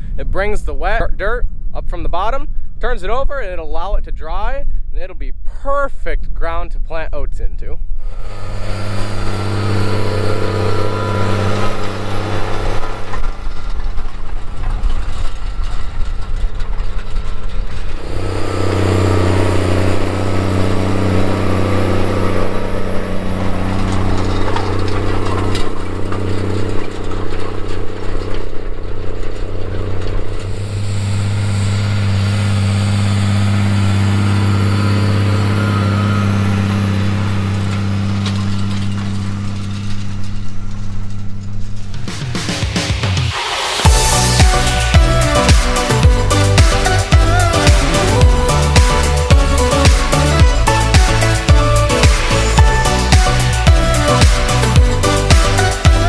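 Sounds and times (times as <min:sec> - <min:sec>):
tractor diesel engine under load: 0:08.0 - 0:56.0.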